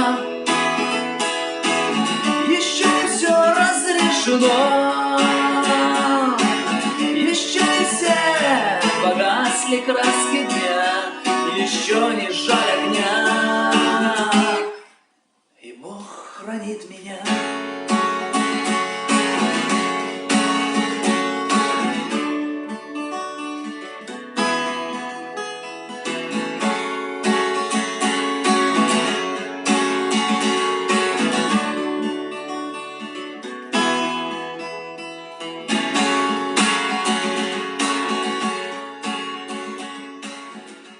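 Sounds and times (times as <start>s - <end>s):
acoustic guitar strumming: 0.0s - 15.0s, 17.0s - 40.9s.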